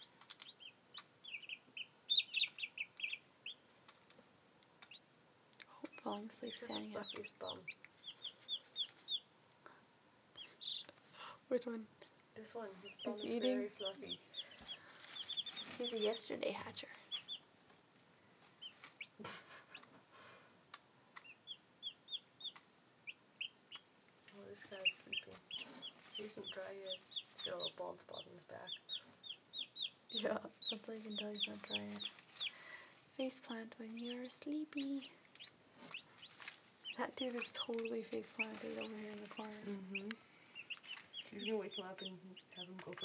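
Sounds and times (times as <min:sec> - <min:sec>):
chicks peeping: 0:00.0 - 0:09.7, 0:10.3 - 0:11.4, 0:12.5 - 0:43.0.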